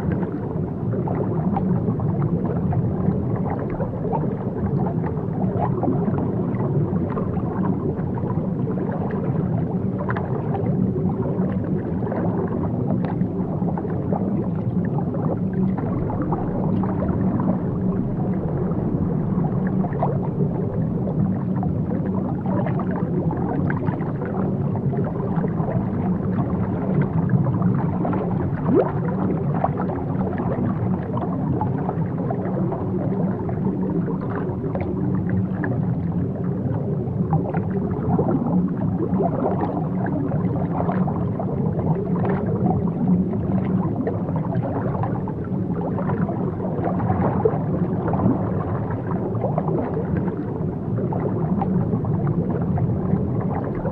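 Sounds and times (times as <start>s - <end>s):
faint clicks and crackles: 0.0s - 53.9s
muffled underwater rumble: 0.0s - 53.9s.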